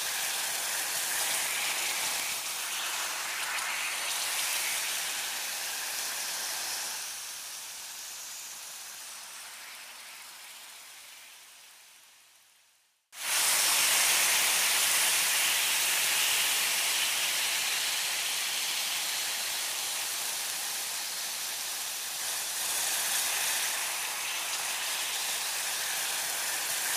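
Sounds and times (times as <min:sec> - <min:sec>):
meat sizzling on a grill: 0:00.0 - 0:11.7, 0:13.2 - 0:26.9.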